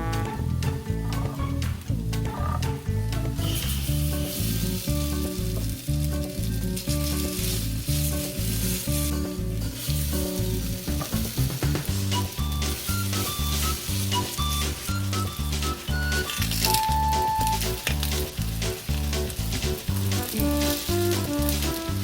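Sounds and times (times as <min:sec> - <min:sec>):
batter sizzling in oil: 0:03.3 - 0:22.0.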